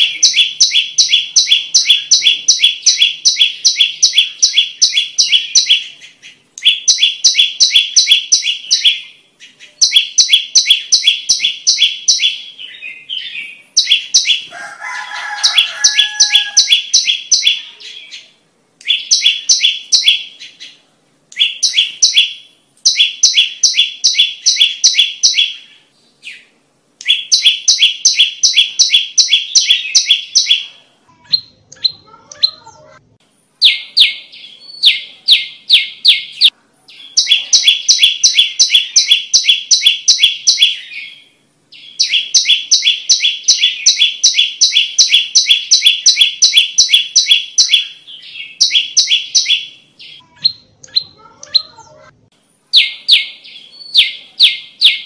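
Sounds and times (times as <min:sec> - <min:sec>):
warbler singing high chirps: 0:00.0 - 0:14.5, 0:15.3 - 0:30.7, 0:33.6 - 0:52.0, 0:52.7 - 0:55.0.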